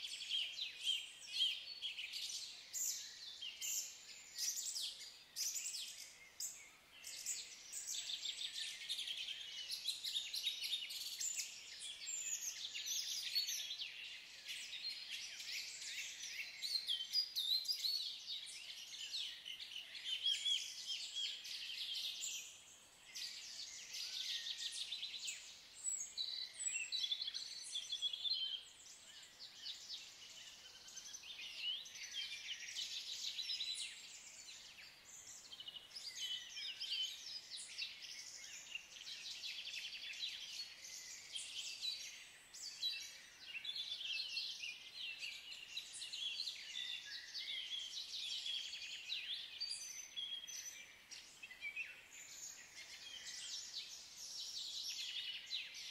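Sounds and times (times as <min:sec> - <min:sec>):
birds chirping and trilling: 0:00.0 - 0:55.9.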